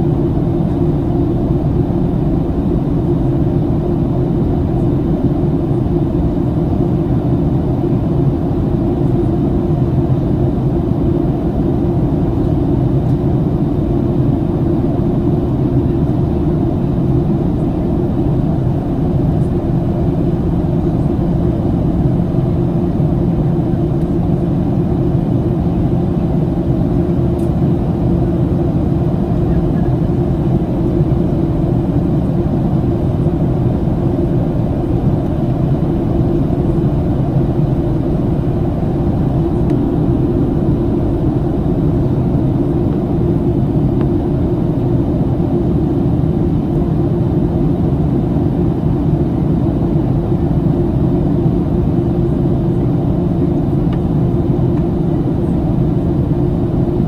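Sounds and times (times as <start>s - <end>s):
low rumble inside airplane cabin: 0.0s - 57.0s.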